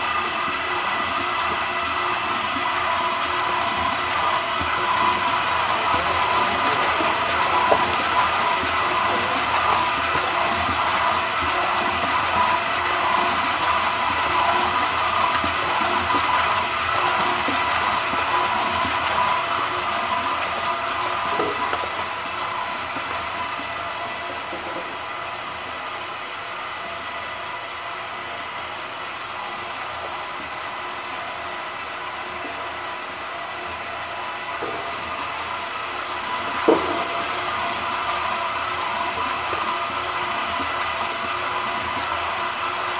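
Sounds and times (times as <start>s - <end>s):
mixer motor whining: 0.0s - 42.9s.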